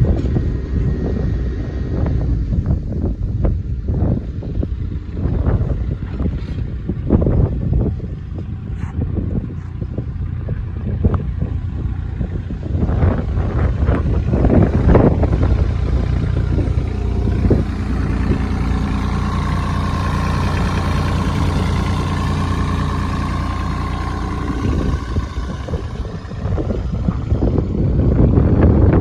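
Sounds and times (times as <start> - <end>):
diesel engine running: 0.0 - 29.0
steady whine: 0.0 - 29.0.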